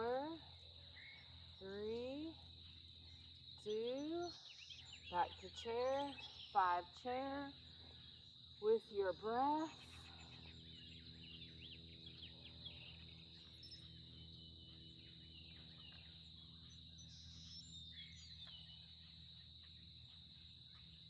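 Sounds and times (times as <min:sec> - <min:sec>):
birds chirping and trilling: 0:00.0 - 0:20.0
low steady hum: 0:00.0 - 0:21.0.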